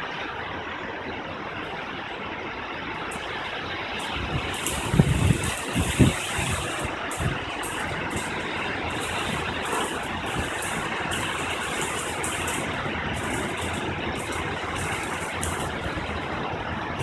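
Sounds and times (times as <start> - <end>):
heavy rain falling: 1.0 - 17.0.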